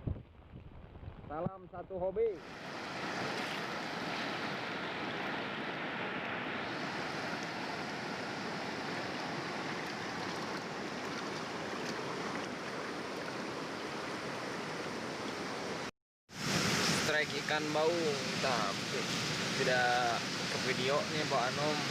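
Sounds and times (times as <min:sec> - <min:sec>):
river flowing: 0:02.4 - 0:21.9.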